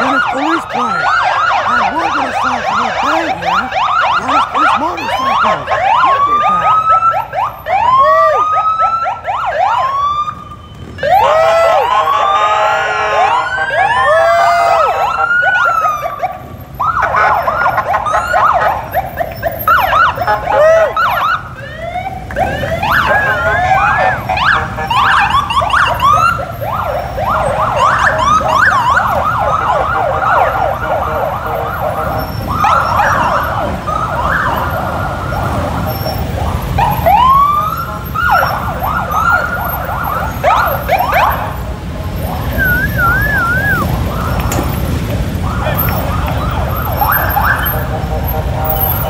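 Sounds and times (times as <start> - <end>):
motorcycle engines rumbling: 0.0 - 49.0
police sirens whooping: 0.0 - 49.0.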